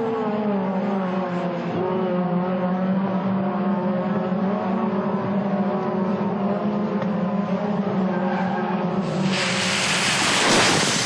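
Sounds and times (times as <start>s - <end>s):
race car engines running: 0.0s - 9.6s.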